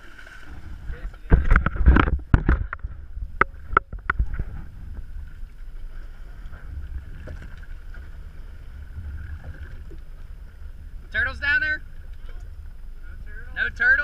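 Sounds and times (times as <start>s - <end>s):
water splashing and slapping: 0.0s - 12.5s
low rumble and hum: 0.0s - 14.0s.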